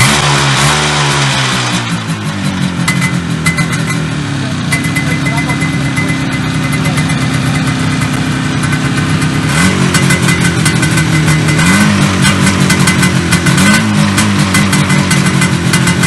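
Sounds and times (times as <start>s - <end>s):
misfiring motorcycle engine idling: 0.0s - 16.0s.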